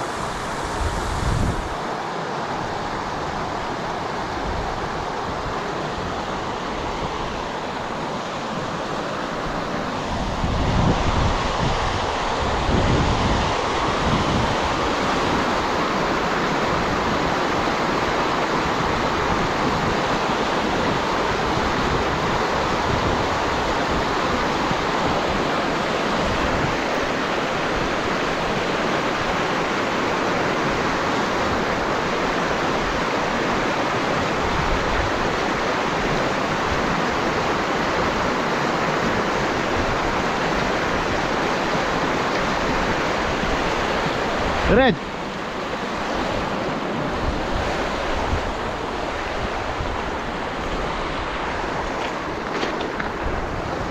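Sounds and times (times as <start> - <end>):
stream rushing over rapids: 0.0 - 53.9.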